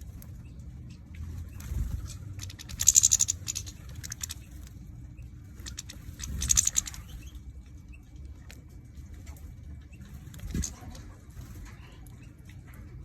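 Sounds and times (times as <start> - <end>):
birds pecking at seed: 0.0 - 12.3.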